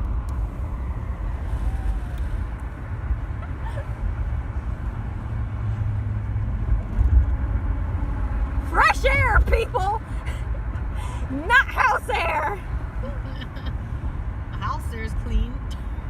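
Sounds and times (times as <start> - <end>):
road rumble: 0.0 - 16.0.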